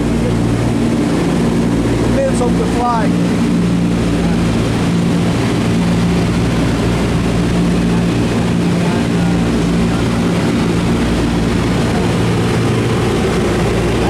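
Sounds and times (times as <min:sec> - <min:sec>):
aircraft engines droning in cabin: 0:00.0 - 0:14.0.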